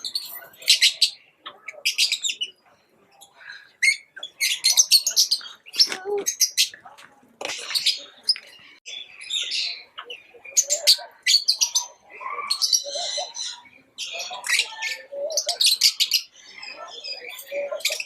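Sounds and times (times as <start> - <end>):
lovebirds chirping and chattering: 0.0 - 18.0.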